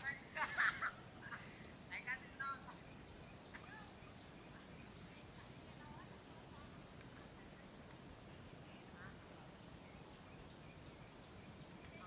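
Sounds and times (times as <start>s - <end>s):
insects buzzing and trilling: 0.0s - 12.0s.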